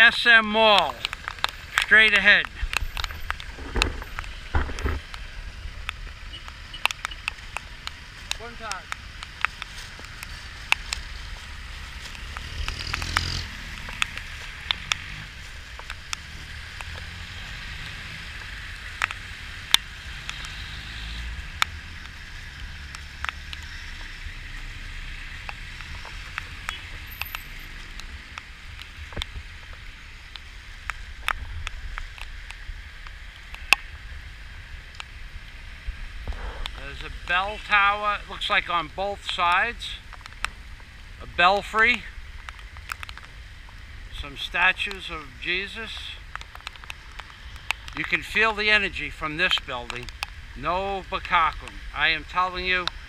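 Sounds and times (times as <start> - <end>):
steady rain hiss: 0.0 - 53.0
raindrops tapping on camera housing: 0.7 - 53.0.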